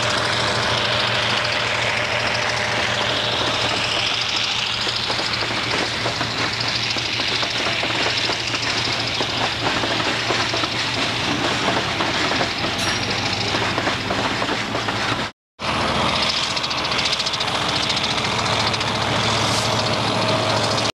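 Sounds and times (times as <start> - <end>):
train engine hum: 0.0 - 20.9
train rattling and clatter: 0.0 - 20.9.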